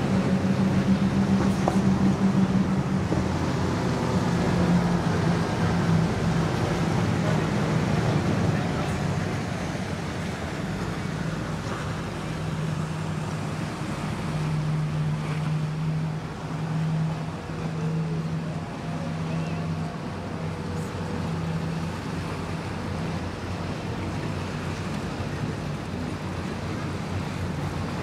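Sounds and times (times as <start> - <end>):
boat engine droning: 0.0 - 28.0
water: 0.0 - 28.0.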